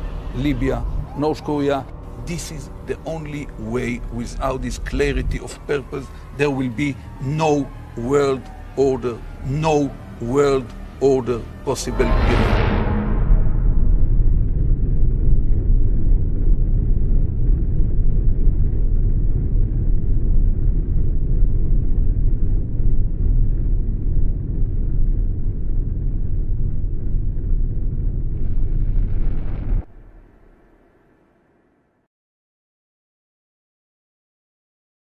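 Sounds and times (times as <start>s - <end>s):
deep bass rumble: 0.0s - 30.6s.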